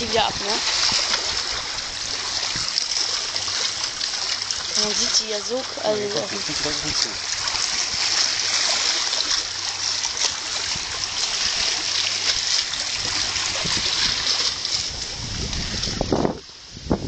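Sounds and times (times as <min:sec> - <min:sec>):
water lapping and splashing: 0:00.0 - 0:17.0.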